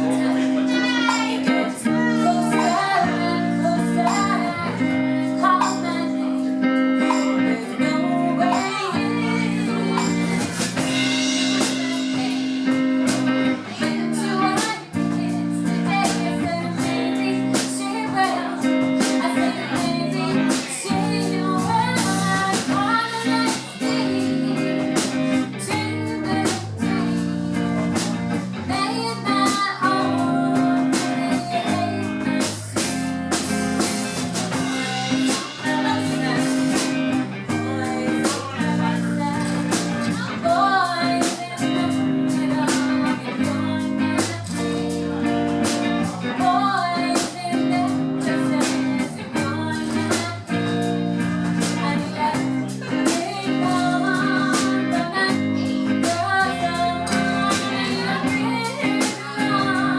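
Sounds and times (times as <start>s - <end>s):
bass notes: 0.0s - 59.9s
drum kit: 0.0s - 59.9s
guitar: 0.0s - 59.9s
person singing: 0.0s - 59.9s.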